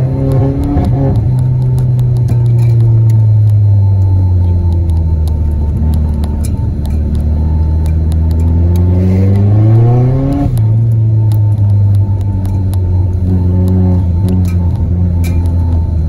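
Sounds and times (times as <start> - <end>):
car engine revving inside cabin: 0.0 - 16.0.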